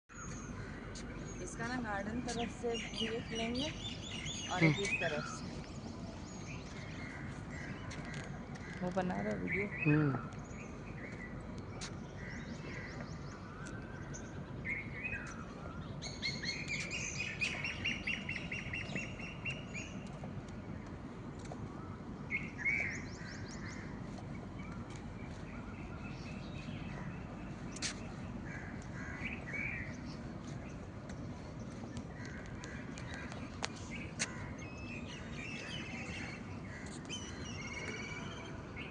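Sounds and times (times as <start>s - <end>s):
small birds chirping and trilling: 0.1s - 38.9s
steady low rumble: 0.1s - 38.9s.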